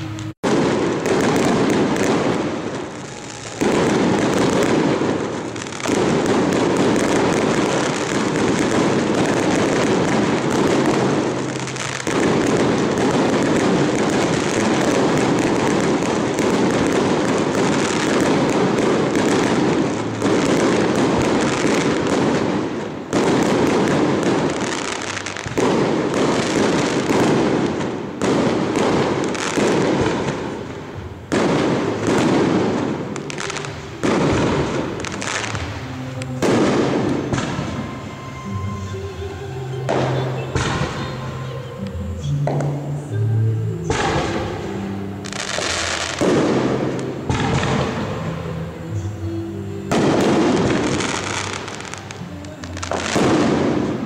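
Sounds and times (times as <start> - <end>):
fireworks crackling: 0.0 - 54.0
loud firework bursts: 0.0 - 54.0.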